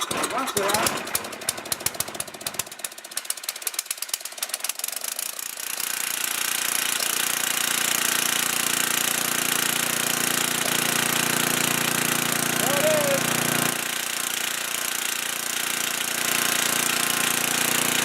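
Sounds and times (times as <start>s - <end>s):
generator engine running: 0.0s - 3.4s, 4.9s - 18.0s.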